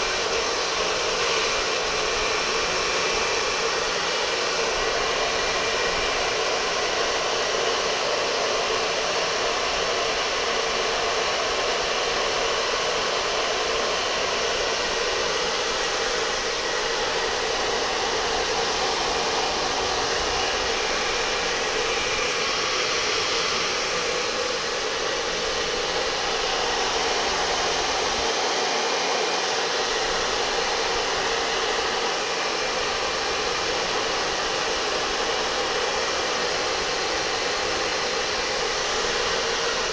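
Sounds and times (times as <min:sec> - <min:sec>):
electric blower air rush: 0:00.0 - 0:39.9.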